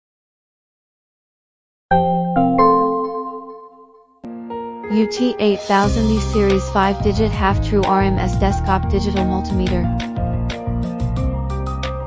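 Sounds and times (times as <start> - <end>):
keyboard chords: 1.9 - 12.0.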